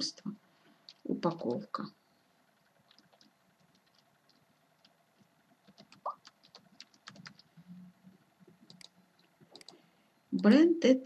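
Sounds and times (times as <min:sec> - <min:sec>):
faint keyboard typing: 0:00.0 - 0:01.8, 0:02.5 - 0:10.6.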